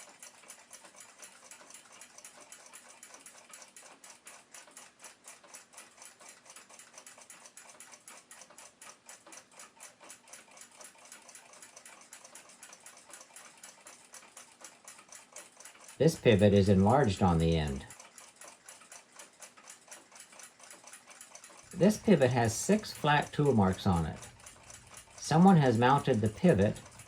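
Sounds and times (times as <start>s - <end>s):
mechanical clock ticking: 0.0s - 27.0s.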